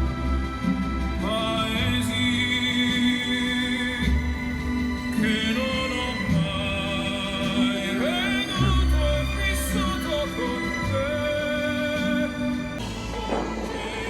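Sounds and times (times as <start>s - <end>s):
operatic singing: 0.0s - 14.0s.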